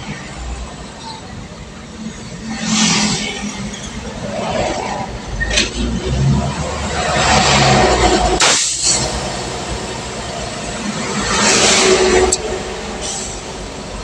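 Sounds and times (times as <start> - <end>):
vehicle engine hum: 0.0 - 14.0
wind and tyres rushing: 0.0 - 14.0.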